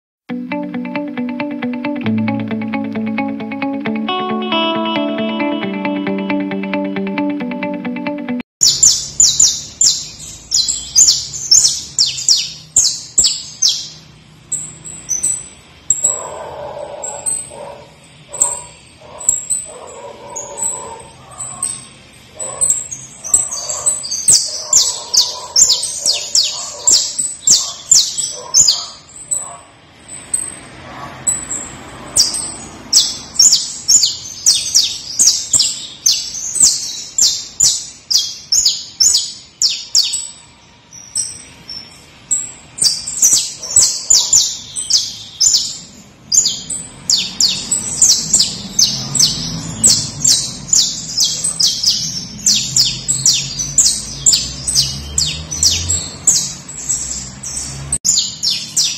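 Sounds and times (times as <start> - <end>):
finch singing high chirps: 8.6 - 16.3, 17.0 - 30.6, 31.2 - 58.9.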